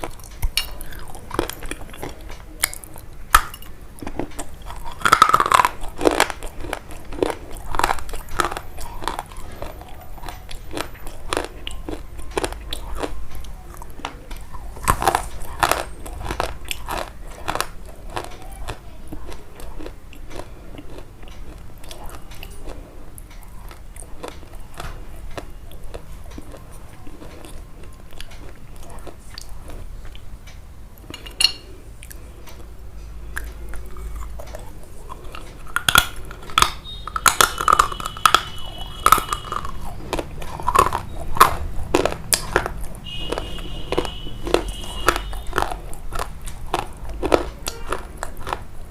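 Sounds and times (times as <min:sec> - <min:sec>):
crisp food crunching: 0:00.0 - 0:30.3, 0:31.0 - 0:48.9.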